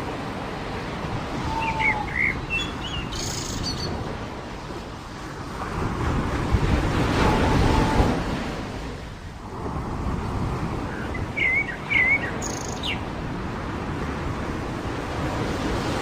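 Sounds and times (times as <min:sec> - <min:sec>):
surf washing on a beach: 0:00.0 - 0:16.0
wind: 0:00.0 - 0:16.0.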